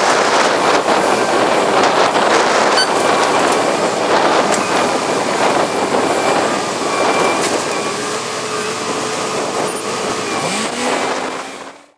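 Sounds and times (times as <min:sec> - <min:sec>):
heavy construction machinery running: 0:00.0 - 0:11.9.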